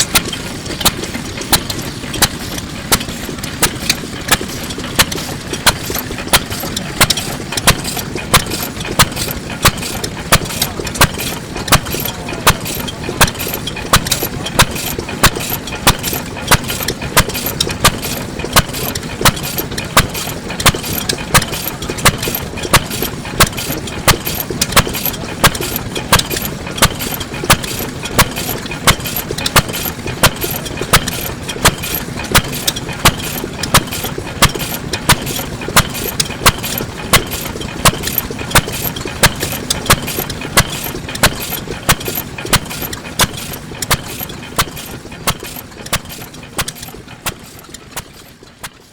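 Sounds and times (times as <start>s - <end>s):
stationary engine firing: 0.0s - 48.3s
light mechanical clicks: 0.0s - 48.8s.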